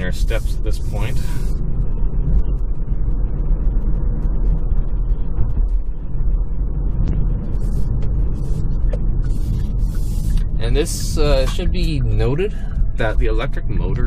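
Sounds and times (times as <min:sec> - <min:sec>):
road and tyre rumble in car: 0:00.0 - 0:14.0.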